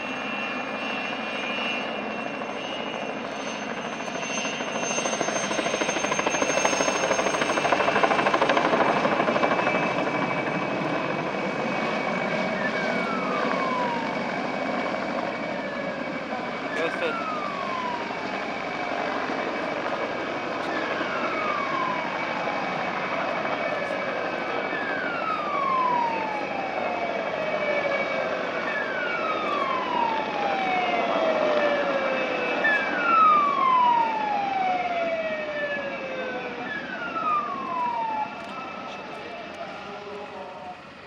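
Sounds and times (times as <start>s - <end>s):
fire engine siren wailing: 0.0s - 41.0s
helicopter engine and rotor: 0.0s - 41.0s.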